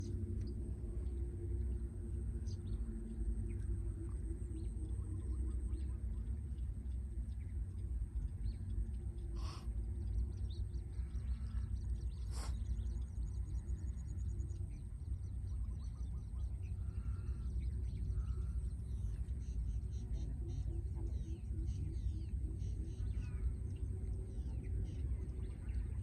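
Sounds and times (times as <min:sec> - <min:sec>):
steady low rumble: 0:00.0 - 0:26.0
faint bird chirps: 0:02.4 - 0:26.0.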